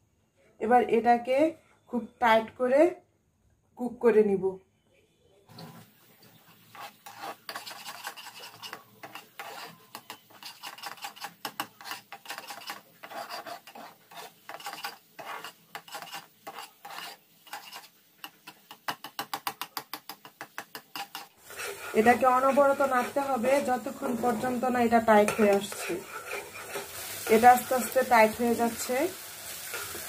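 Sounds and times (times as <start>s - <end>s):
spatula scraping dough in a pan: 5.5s - 30.0s.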